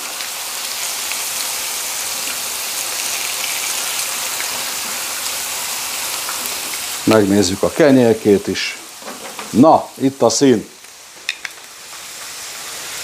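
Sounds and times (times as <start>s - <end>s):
meat sizzling on griddle: 0.0s - 13.0s.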